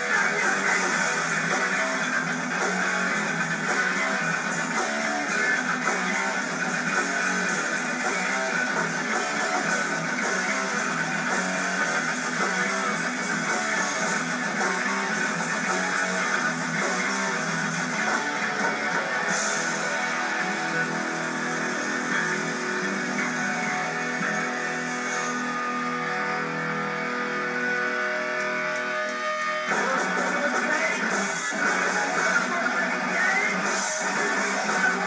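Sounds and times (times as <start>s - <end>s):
drums with cymbal hits: 0.0s - 25.7s, 29.7s - 35.0s
distorted electric guitars: 0.0s - 35.0s.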